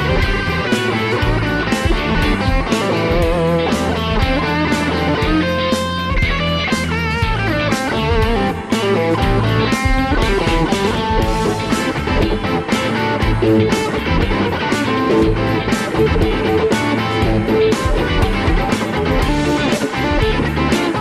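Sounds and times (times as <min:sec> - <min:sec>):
electric guitar music with beat: 0:00.0 - 0:21.0.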